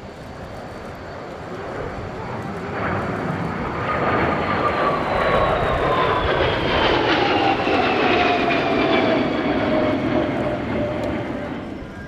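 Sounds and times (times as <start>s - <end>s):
jet engines passing with whine: 0.0s - 12.0s.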